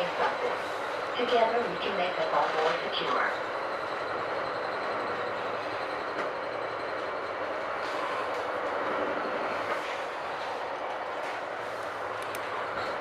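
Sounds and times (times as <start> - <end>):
train running on rails: 0.0 - 13.0.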